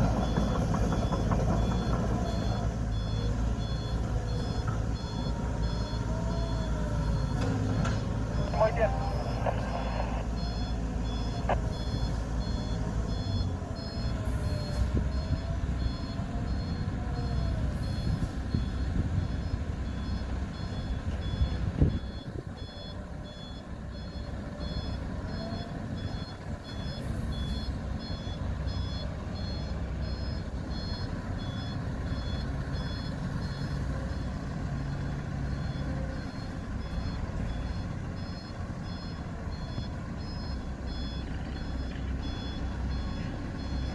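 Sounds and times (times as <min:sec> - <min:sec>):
diesel engine rumble: 0:00.0 - 0:43.9
reversing alarm beeps: 0:00.0 - 0:43.9.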